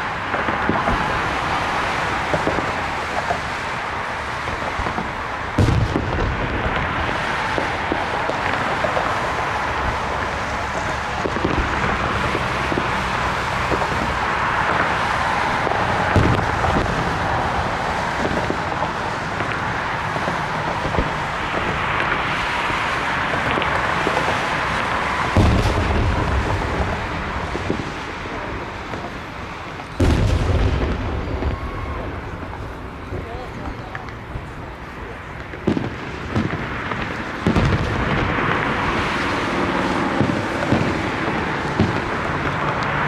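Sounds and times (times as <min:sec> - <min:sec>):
fireworks crackling rumble: 0:00.0 - 0:43.0
heavy firework booms: 0:00.1 - 0:43.0.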